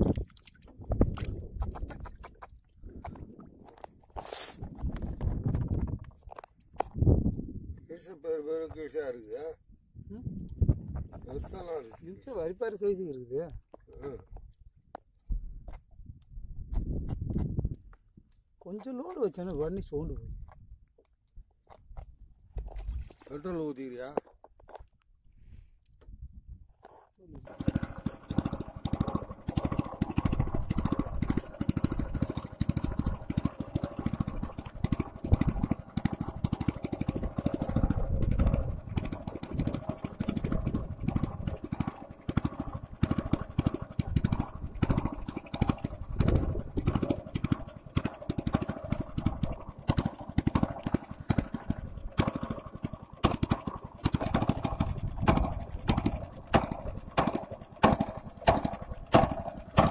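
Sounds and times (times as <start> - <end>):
outboard motor running: 0.0 - 24.8, 26.8 - 59.9.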